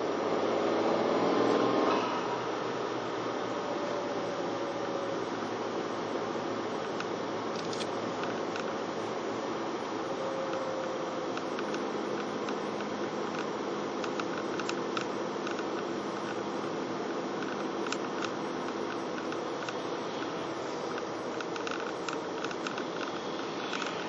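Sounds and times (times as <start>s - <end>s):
car road noise from inside: 0.0s - 24.0s.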